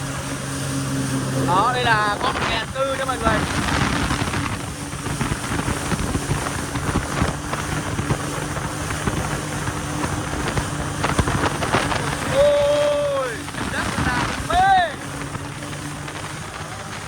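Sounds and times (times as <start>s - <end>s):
hull slapping on water: 0.0s - 17.0s
jet ski engine hum: 0.0s - 17.0s
wind rushing over microphone: 0.0s - 17.0s.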